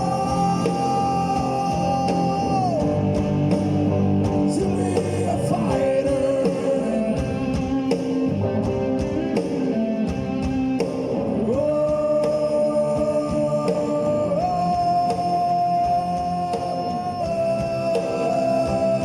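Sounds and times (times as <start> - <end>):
distorted guitars: 0.0 - 19.0
drums with cymbal hits: 0.0 - 19.0.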